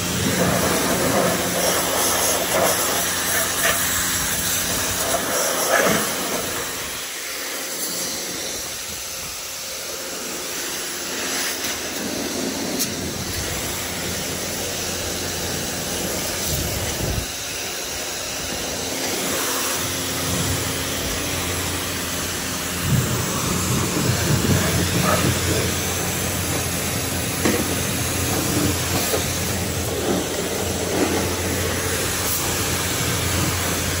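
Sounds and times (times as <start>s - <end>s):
pressure washer spraying water: 0.0s - 34.0s.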